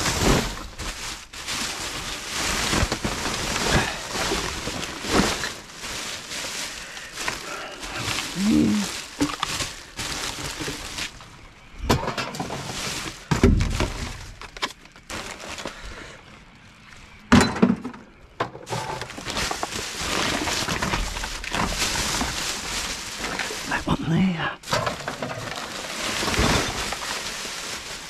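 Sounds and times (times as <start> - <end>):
rubbish bags rustling: 0.0 - 17.2, 18.6 - 28.0.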